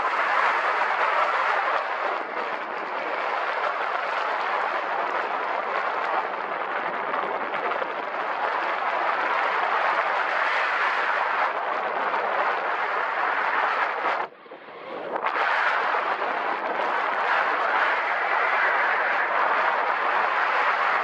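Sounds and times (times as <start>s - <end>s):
wind over microphone: 0.0s - 21.0s.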